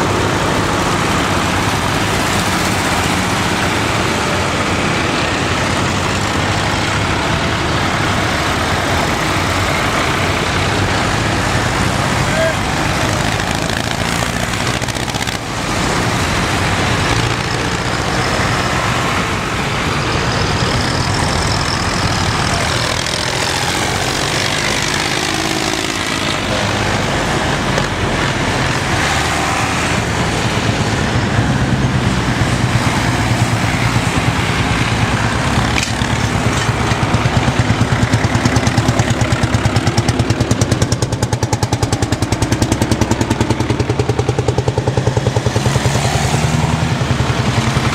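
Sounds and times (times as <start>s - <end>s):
close engine rapid firing beat: 0.0s - 47.9s
tractor engines running: 0.0s - 47.9s.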